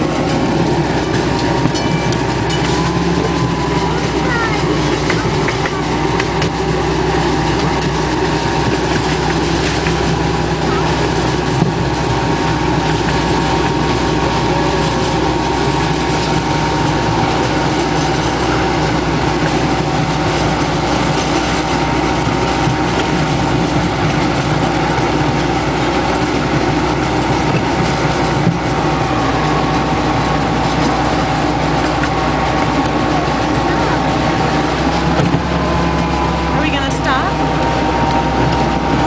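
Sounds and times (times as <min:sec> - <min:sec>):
ride-on train engine drone: 0:00.0 - 0:39.0
train cars rumbling on rails: 0:00.0 - 0:39.0.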